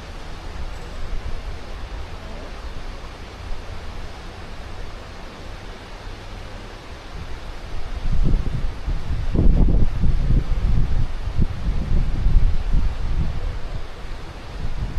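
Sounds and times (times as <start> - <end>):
fast-flowing river rushing: 0.0 - 14.9.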